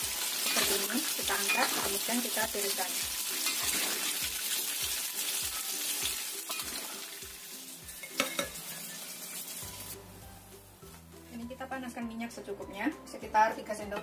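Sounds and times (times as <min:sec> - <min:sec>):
tofu sizzling in hot oil: 0:00.0 - 0:11.2
background music with steady beat: 0:00.9 - 0:14.0.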